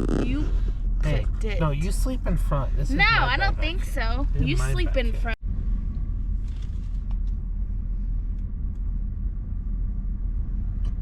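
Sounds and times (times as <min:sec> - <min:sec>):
engine idling rumble: 0:00.0 - 0:11.0.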